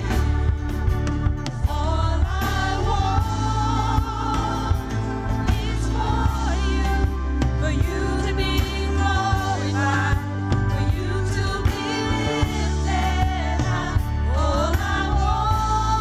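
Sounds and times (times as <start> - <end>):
bass line: 0.0 - 16.0
drum beats: 0.0 - 16.0
group singing gospel: 0.0 - 16.0.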